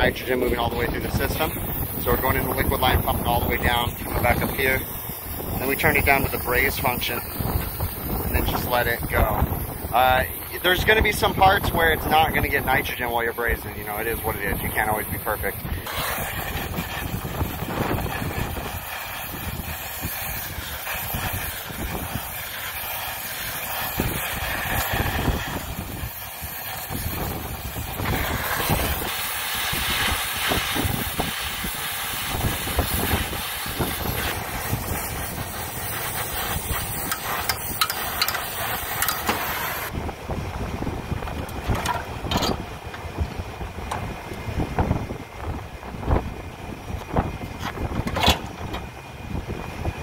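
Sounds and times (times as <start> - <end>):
torch flame hissing: 0.0 - 50.0
wind buffeting microphone: 0.0 - 50.0.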